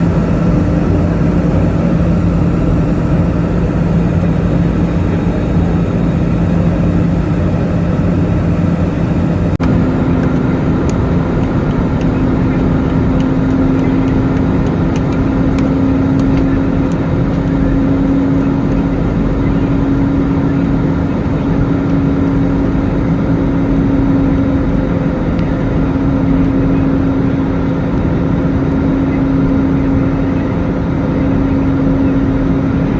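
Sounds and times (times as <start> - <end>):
aircraft engine drone: 0.0 - 32.9.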